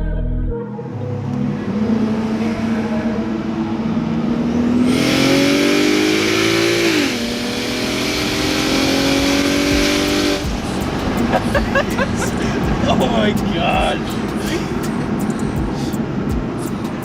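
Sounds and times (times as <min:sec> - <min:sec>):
car engine accelerating hard: 0:01.5 - 0:17.0.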